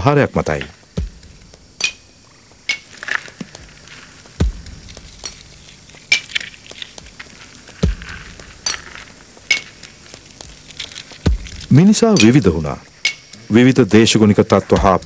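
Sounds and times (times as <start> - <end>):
hard objects clinking: 0.5 - 15.0
deep thuds: 0.6 - 12.4, 14.7 - 15.0.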